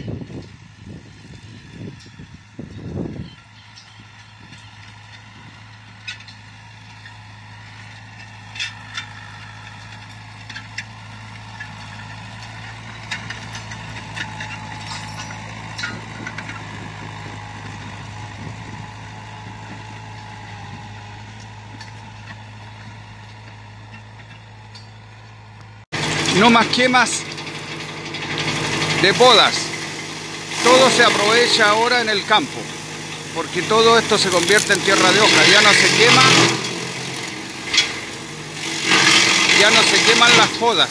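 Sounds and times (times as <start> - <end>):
diesel tractor engine under load: 0.0 - 40.9.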